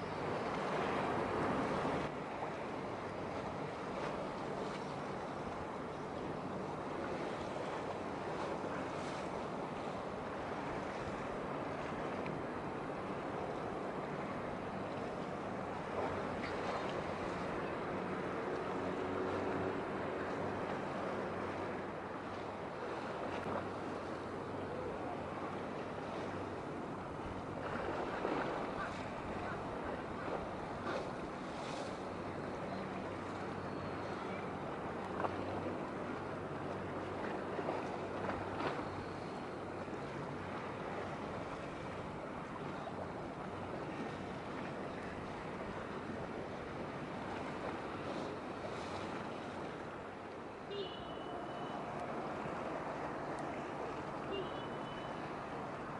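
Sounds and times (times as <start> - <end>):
ship engine hum: 0.0 - 55.9
water noise: 0.0 - 55.9
wind: 0.0 - 55.9.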